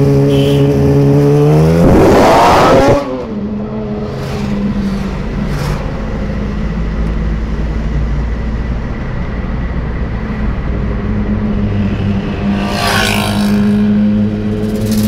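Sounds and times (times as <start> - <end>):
car engine and road drone: 0.0 - 15.0
motorcycle revving: 0.0 - 15.0.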